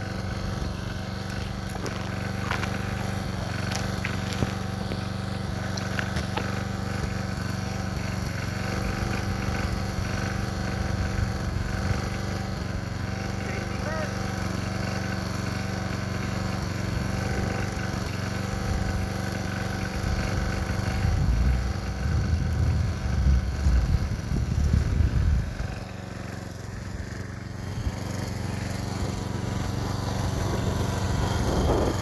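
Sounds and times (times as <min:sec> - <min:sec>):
lawn mower engine running: 0:00.0 - 0:32.0.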